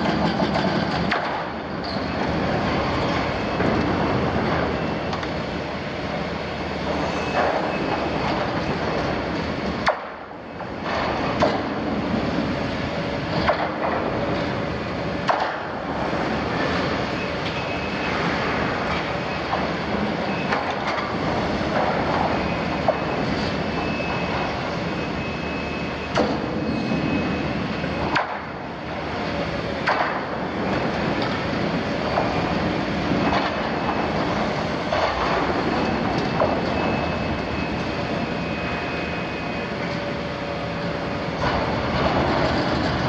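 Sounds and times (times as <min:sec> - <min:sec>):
diesel engine under load: 0:00.0 - 0:43.0.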